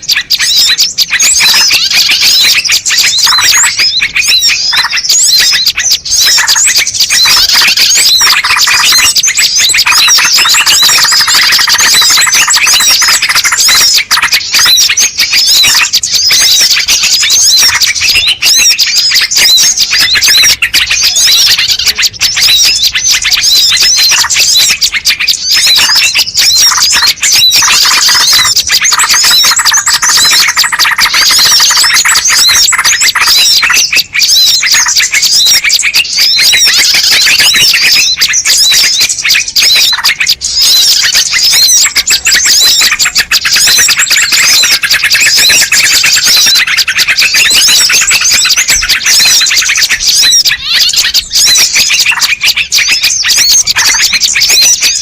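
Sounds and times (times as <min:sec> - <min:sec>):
small birds chirping and squeaking: 0:00.0 - 0:55.0.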